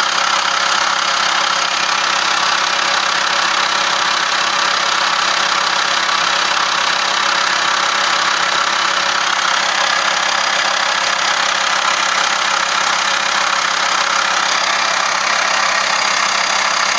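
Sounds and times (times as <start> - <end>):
van engine idling: 0.0 - 16.9.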